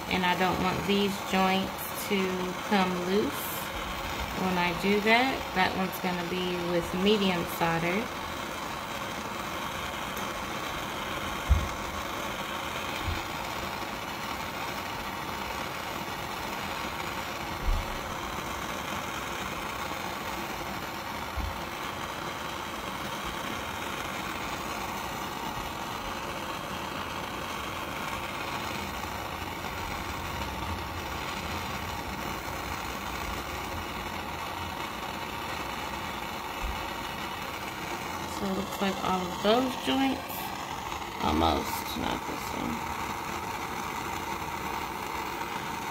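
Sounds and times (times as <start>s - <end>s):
gas torch flame hissing: 0.0s - 45.9s.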